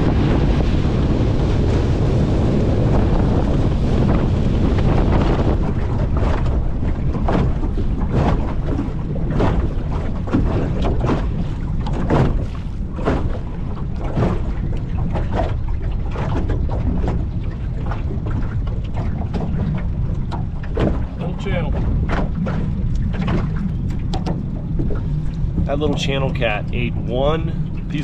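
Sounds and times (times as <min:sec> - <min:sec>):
water slapping against boat hull: 0:00.0 - 0:28.0
wind buffeting microphone: 0:00.0 - 0:28.0.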